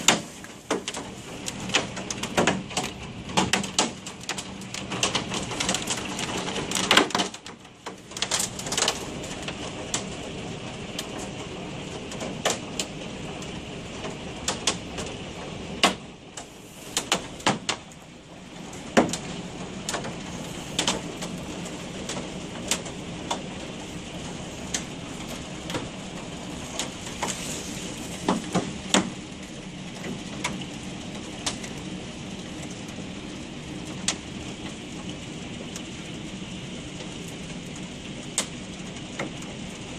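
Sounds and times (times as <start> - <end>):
hail clicking on window: 0.0 - 39.9
rushing hail and rain: 0.0 - 39.9.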